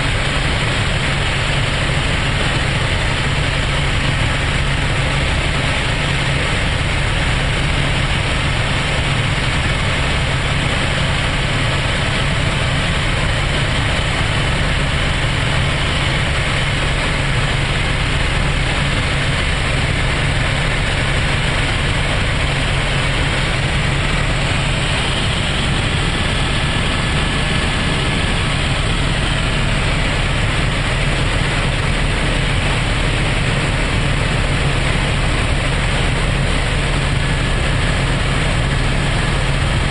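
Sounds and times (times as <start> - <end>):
helicopter engine and rotor hum: 0.0 - 39.9.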